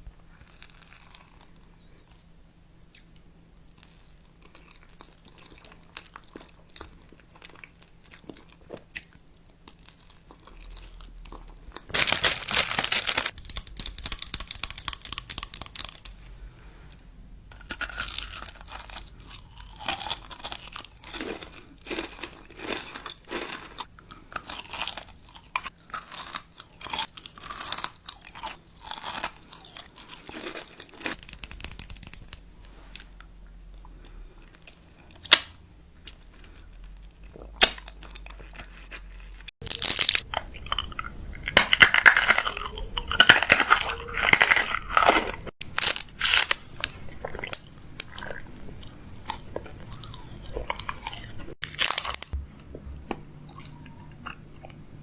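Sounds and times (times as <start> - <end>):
crunchy chewing: 0.2 - 2.3, 2.9 - 54.8.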